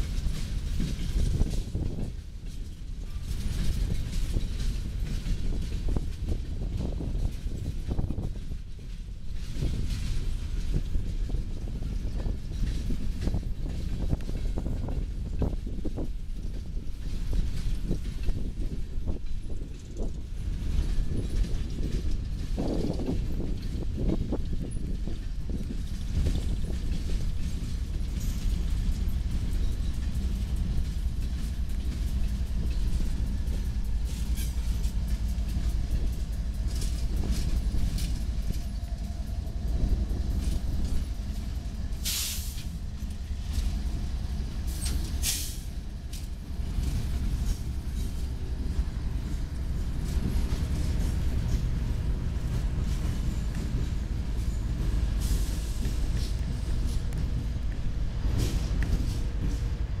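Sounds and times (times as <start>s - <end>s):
locomotive engines rumbling: 0.0s - 60.0s
train wheels on rails: 0.0s - 60.0s.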